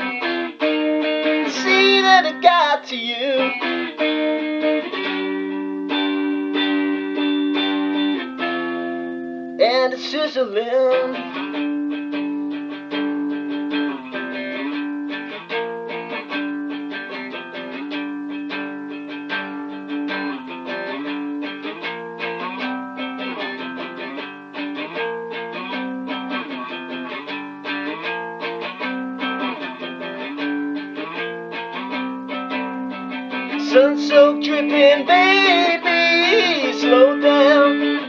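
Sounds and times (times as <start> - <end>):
guitar strumming chords: 0.0 - 38.0.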